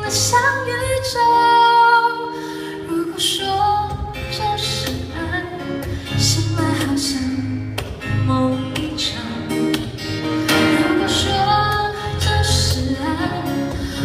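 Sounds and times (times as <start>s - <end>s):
live band playing pop ballad: 0.0s - 14.0s.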